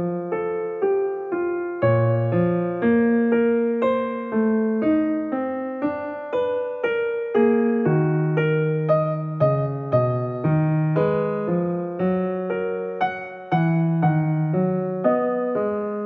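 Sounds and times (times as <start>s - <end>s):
piano single notes: 0.0s - 16.0s.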